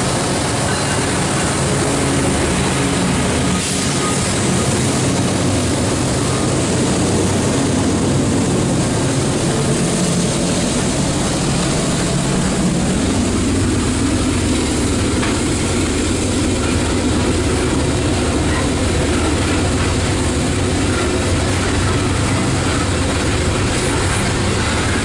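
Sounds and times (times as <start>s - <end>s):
train wheels rolling on track: 0.0s - 25.0s.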